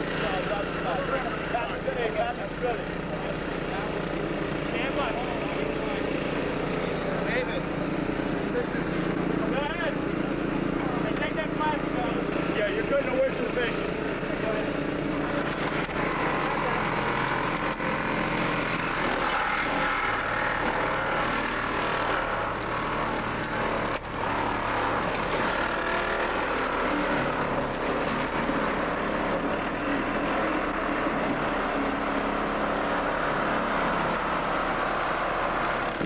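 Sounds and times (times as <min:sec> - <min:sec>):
small gasoline engine running: 0:00.0 - 0:36.0.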